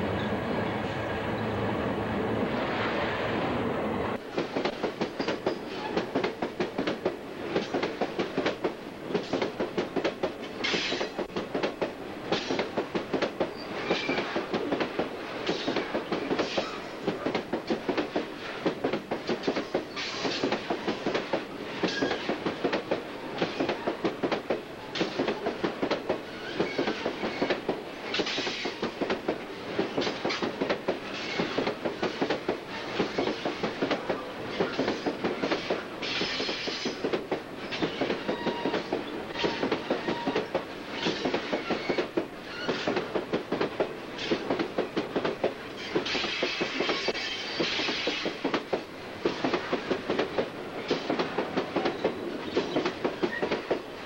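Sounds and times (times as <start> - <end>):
train wheels clicking over rail joints: 4.2 - 54.0.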